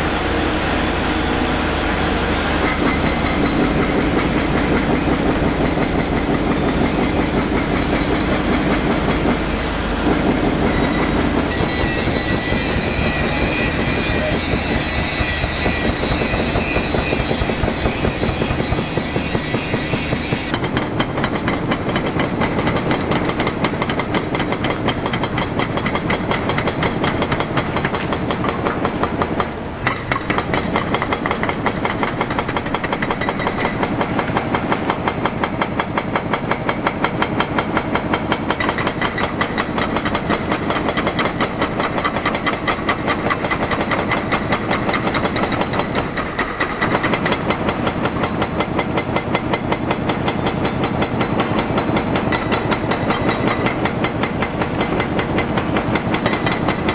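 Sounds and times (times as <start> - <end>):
heavy diesel machinery clattering: 0.0 - 56.9.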